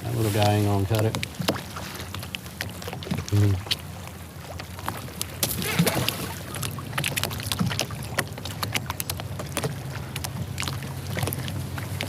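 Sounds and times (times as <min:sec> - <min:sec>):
waves lapping against a kayak: 0:00.0 - 0:12.0.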